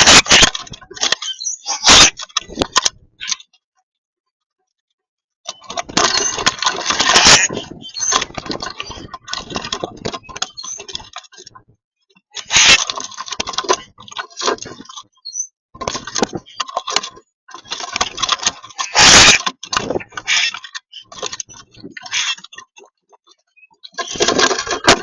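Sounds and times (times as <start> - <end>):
birds clattering at feeder: 0.0 - 3.5, 5.5 - 11.6, 12.2 - 25.0
birds pecking and scrabbling: 0.0 - 3.8, 4.4 - 25.0.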